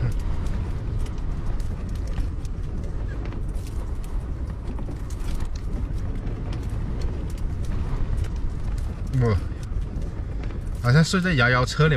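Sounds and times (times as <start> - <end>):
strong gusting wind: 0.0 - 11.9.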